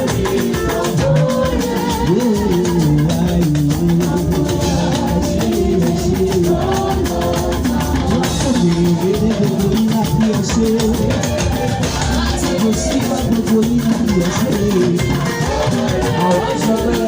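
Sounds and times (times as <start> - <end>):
drum kit beat: 0.0 - 17.0
guitar: 0.0 - 17.0.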